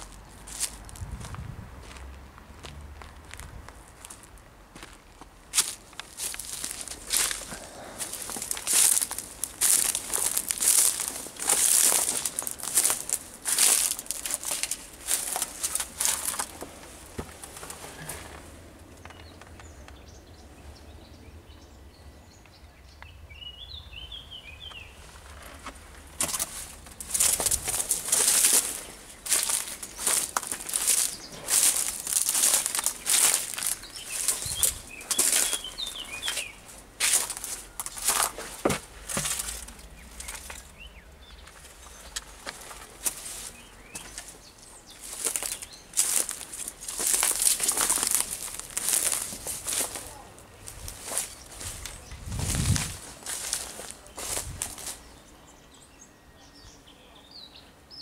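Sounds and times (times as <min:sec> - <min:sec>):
rustling crunching noise: 0:00.0 - 0:19.8, 0:24.7 - 0:55.1.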